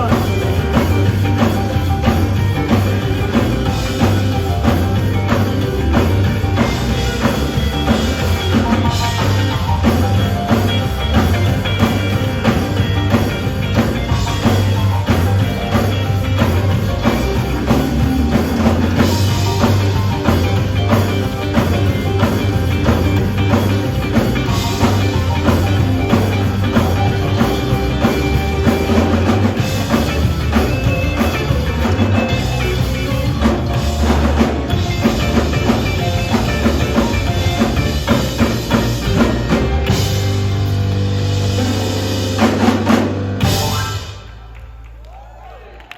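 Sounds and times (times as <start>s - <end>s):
drum kit beat: 0.0s - 44.5s
heavy bass: 0.0s - 44.9s
live band music: 0.0s - 45.0s.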